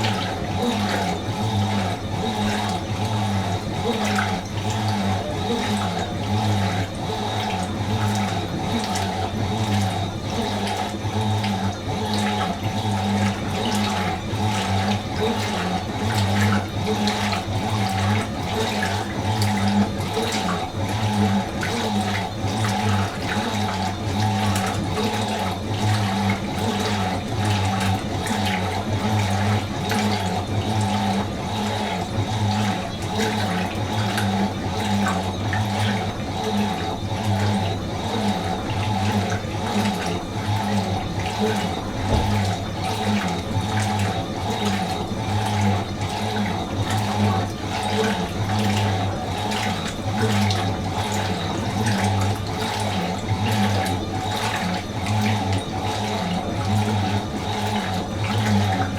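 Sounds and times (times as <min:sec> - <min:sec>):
washing machine low hum: 0:00.0 - 0:58.9
water sloshing in washing machine: 0:00.0 - 0:58.9.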